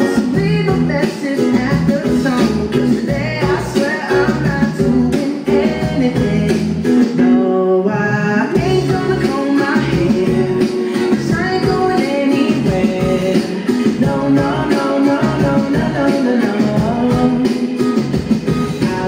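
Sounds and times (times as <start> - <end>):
guitar: 0.0 - 19.0
person singing: 0.0 - 19.0.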